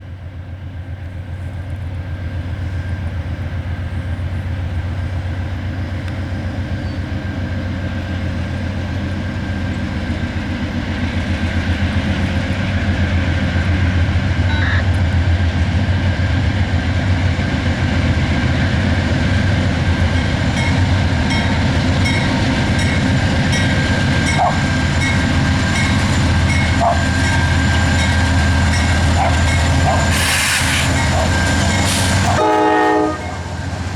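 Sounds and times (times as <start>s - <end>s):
diesel locomotive rumble: 0.0s - 33.9s.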